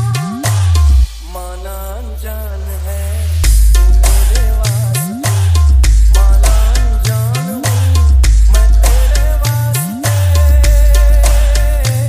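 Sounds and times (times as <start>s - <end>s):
dance remix with heavy bass: 0.0s - 12.0s
rising bass sweep: 0.0s - 12.0s.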